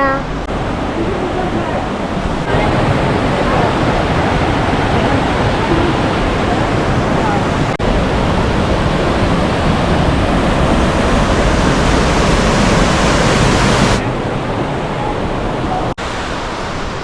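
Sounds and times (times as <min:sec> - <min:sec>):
rushing water roar: 0:00.0 - 0:17.0.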